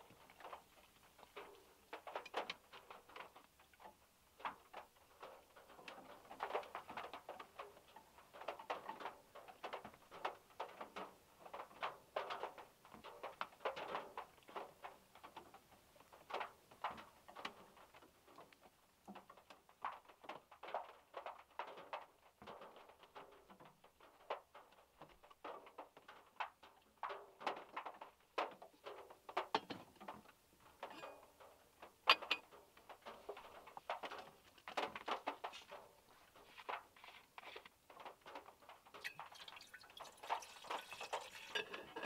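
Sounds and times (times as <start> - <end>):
rain tapping on metal car roof: 0.0 - 42.0.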